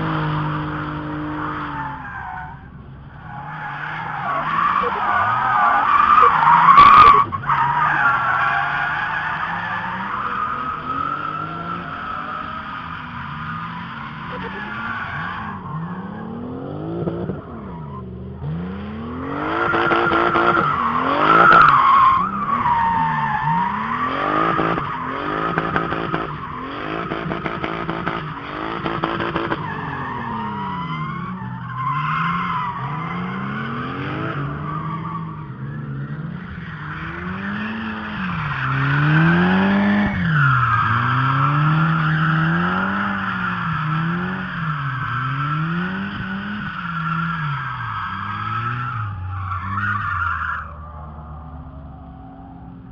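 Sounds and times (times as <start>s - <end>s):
drift car engines revving: 0.0s - 52.9s.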